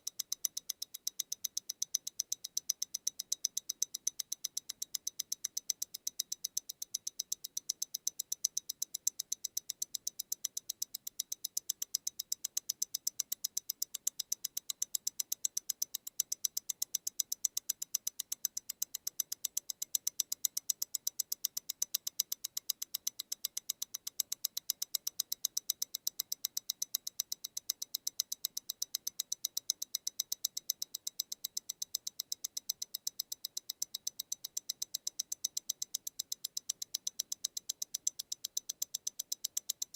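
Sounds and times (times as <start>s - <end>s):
mechanical watch ticking: 0.0s - 39.9s.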